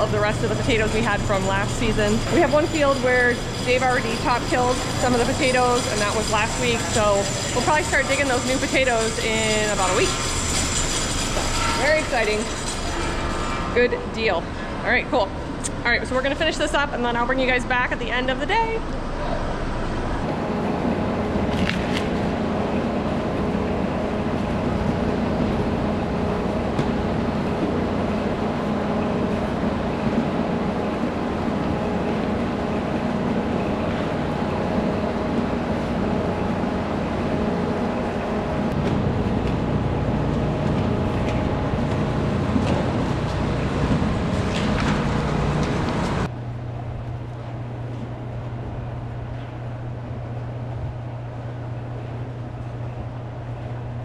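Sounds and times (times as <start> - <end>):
machinery humming: 0.0 - 54.0.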